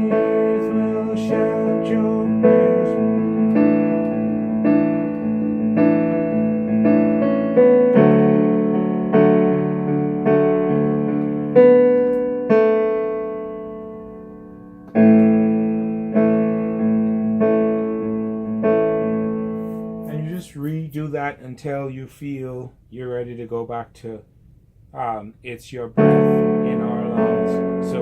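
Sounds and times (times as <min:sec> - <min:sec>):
electronic keyboard piano chords: 0:00.0 - 0:21.2, 0:25.9 - 0:28.0.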